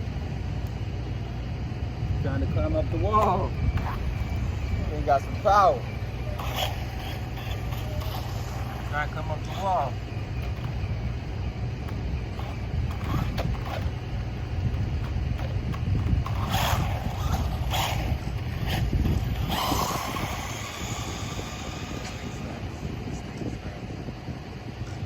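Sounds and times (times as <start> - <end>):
rc car motor and tyres: 0.0 - 25.0
wind rumbling on microphone: 0.0 - 25.0.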